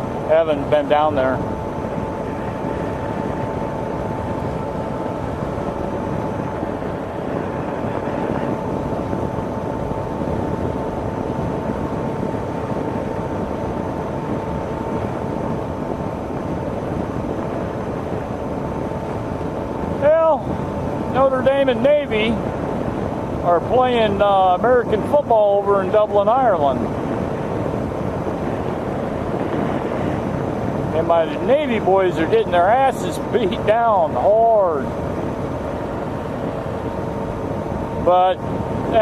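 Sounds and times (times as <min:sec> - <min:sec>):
constant high hum: 0:00.0 - 0:39.0
vehicle low rumble: 0:00.0 - 0:39.0.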